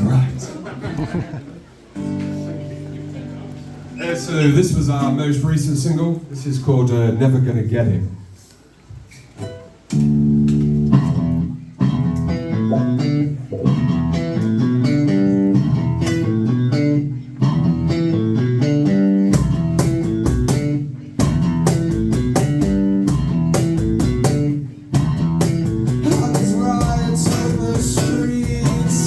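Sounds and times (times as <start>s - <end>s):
live band guitar and bass: 0.0s - 6.7s, 8.0s - 29.0s.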